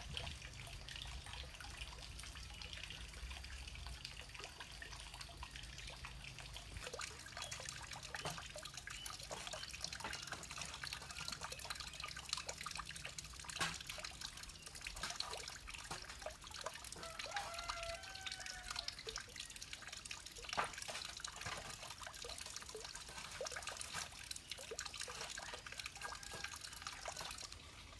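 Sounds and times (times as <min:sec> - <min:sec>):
water trickling and dripping: 0:00.0 - 0:27.9.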